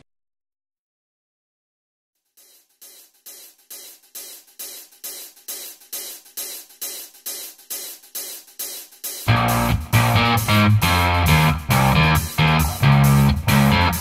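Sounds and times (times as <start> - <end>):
cymbal strikes: 2.4 - 14.0.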